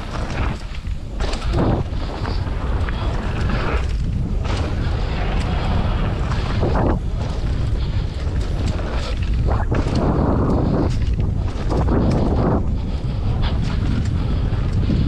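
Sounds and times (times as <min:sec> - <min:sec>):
tyres rumbling on dirt: 0:00.0 - 0:15.0
wind rushing over microphone: 0:00.0 - 0:15.0.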